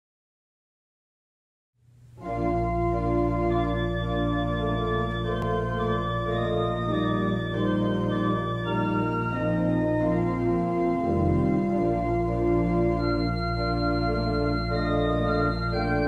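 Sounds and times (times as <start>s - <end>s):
organ playing slow chords: 2.2s - 16.0s.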